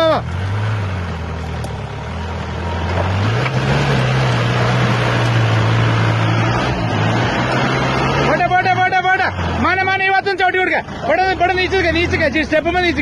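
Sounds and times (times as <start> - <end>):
jeep engine revving: 0.0 - 13.0.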